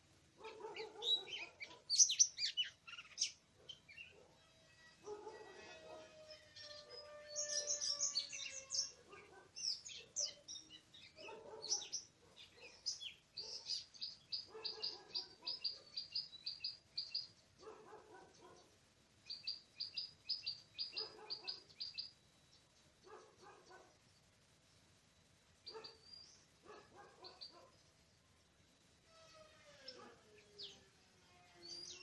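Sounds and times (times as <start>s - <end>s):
bird chirping: 0.0s - 24.3s, 25.6s - 28.3s, 29.2s - 32.0s.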